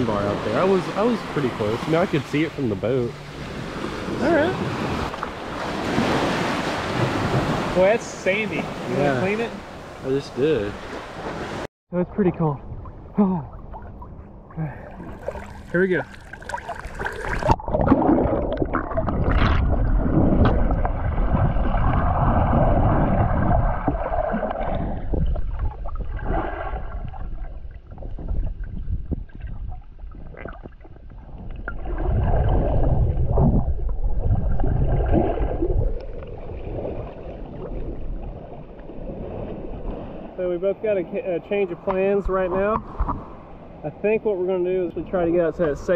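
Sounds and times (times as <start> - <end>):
underwater rushing and gurgling: 0.0 - 11.7, 12.6 - 40.5, 41.2 - 43.8.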